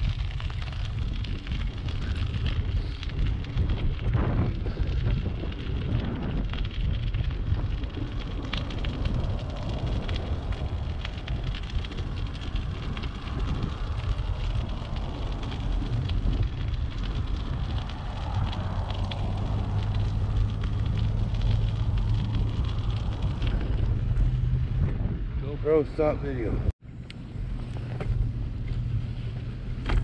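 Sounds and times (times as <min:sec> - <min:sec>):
bicycle tyres crackling on concrete: 0:00.0 - 0:30.0
wind rumbling on microphone: 0:00.0 - 0:30.0.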